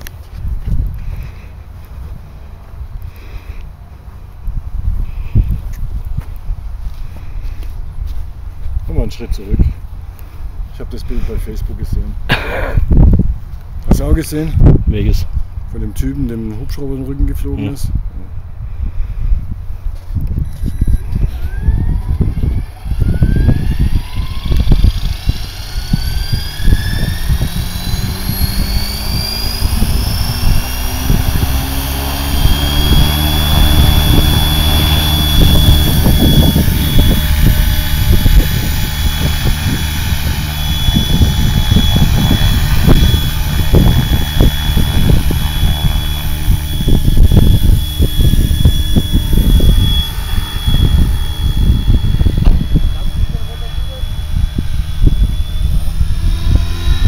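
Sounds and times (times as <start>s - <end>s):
low rotor hum: 0.0s - 57.0s
rc helicopter motor whine: 0.0s - 57.0s
wind on microphone: 0.0s - 57.0s.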